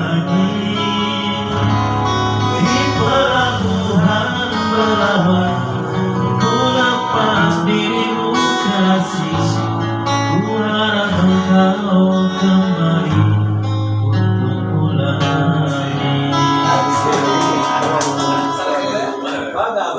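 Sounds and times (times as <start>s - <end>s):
person singing long notes: 0.0s - 19.2s
acoustic guitar music: 0.0s - 19.9s.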